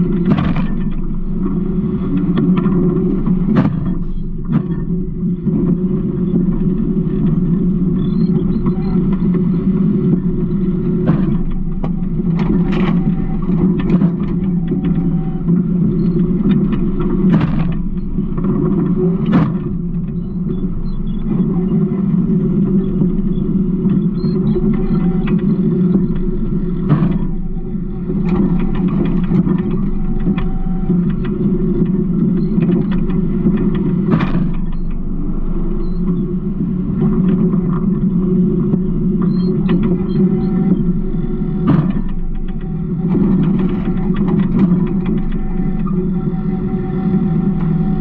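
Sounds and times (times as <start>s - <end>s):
sharp knocks and rattles: 0.0s - 21.5s, 22.9s - 46.1s
diesel engine low rumble: 0.0s - 48.0s.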